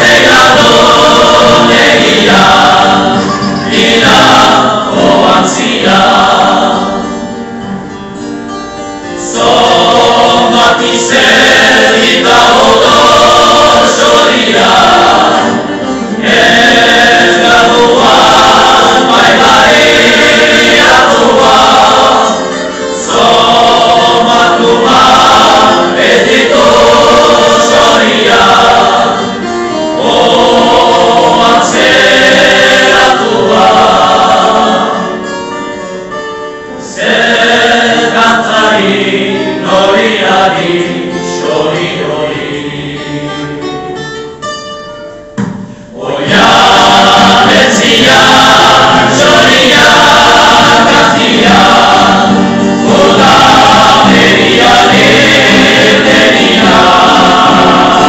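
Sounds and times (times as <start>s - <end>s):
male choir singing in harmony: 0.0s - 7.7s, 9.0s - 43.6s, 45.8s - 58.0s
acoustic guitar: 0.0s - 58.0s.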